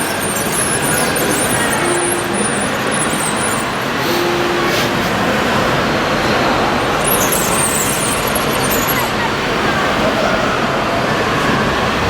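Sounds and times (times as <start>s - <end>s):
model bulldozer running: 0.0s - 12.0s.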